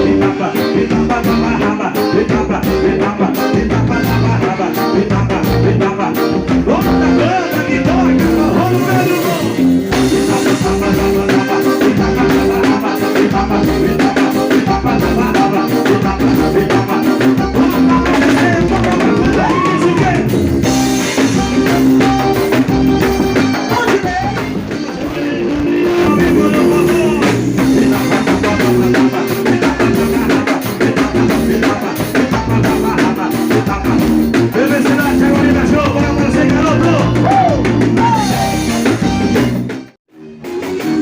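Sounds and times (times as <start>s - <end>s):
drum kit beat: 0.0s - 41.0s
guitar: 0.0s - 41.0s
live band playing loudly: 0.0s - 41.0s.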